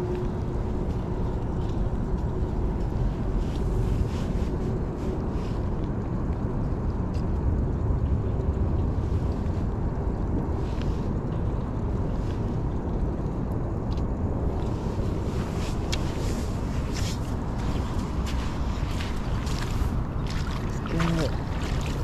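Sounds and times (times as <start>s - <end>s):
low rumbling outdoor noise: 0.0s - 22.0s.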